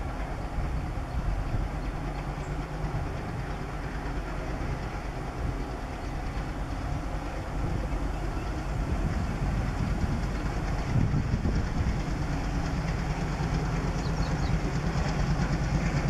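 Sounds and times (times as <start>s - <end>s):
diesel train rumbling on track: 0.0s - 16.0s.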